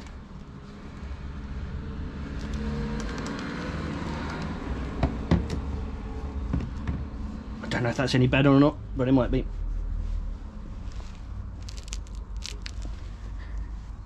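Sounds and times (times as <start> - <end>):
motor vehicle passing by: 0.0 - 14.0.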